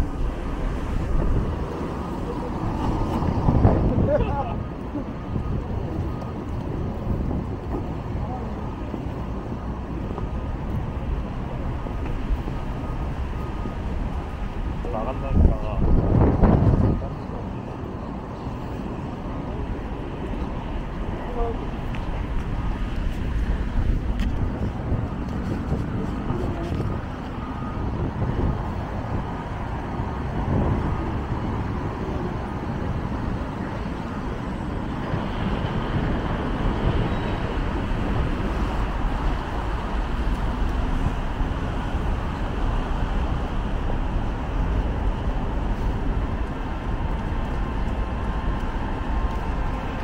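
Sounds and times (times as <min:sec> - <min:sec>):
low rumble of road traffic: 0:00.0 - 0:50.0.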